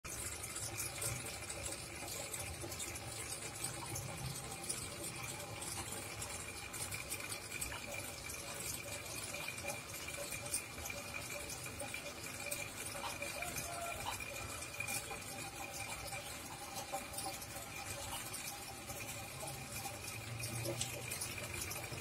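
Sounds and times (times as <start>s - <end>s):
aquarium water trickling: 0.0s - 22.0s.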